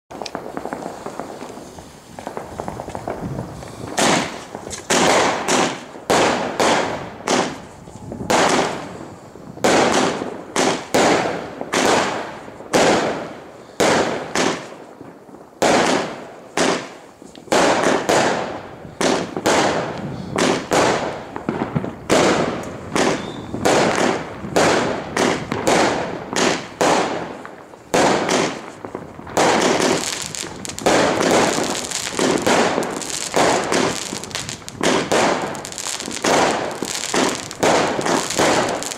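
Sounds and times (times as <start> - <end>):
fireworks banging and crackling: 0.1 - 38.9.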